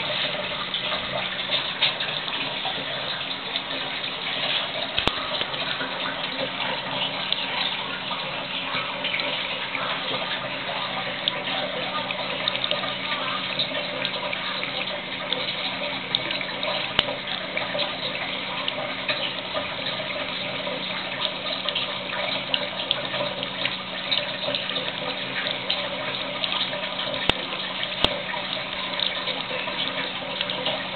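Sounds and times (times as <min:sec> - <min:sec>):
tap water splashing into sink: 0:00.0 - 0:30.9.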